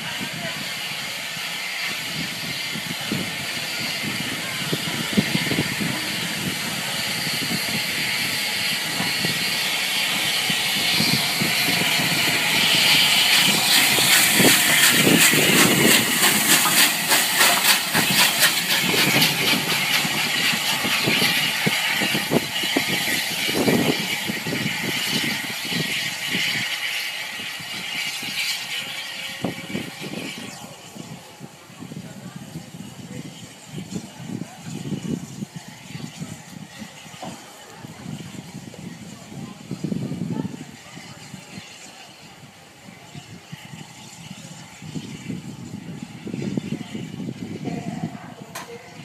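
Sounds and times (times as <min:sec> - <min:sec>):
steam hiss: 0:00.0 - 0:49.0
steam locomotive exhaust beats: 0:00.0 - 0:49.0.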